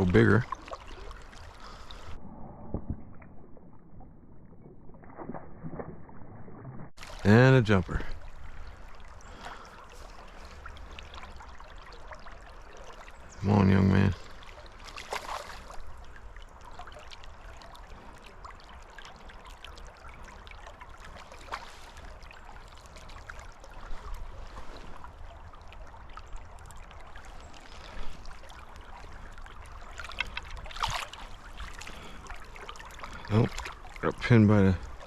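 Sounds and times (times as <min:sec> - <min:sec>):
creek water running: 0:00.0 - 0:02.2, 0:04.9 - 0:35.0.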